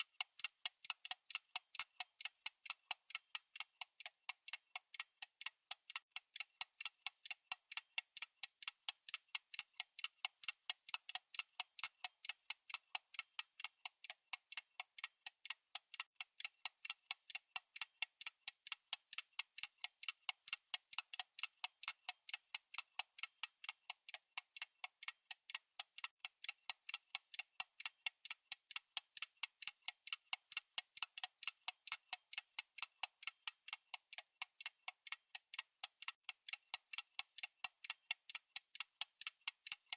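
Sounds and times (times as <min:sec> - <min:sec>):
rapid clock ticks: 0:00.0 - 0:39.9.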